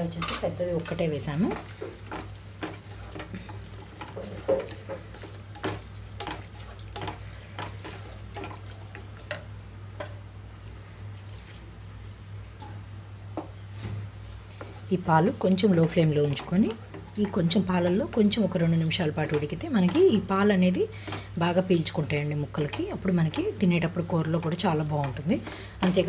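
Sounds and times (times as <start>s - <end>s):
wooden spatula stirring in a pan: 0.3s - 10.6s, 12.5s - 26.0s.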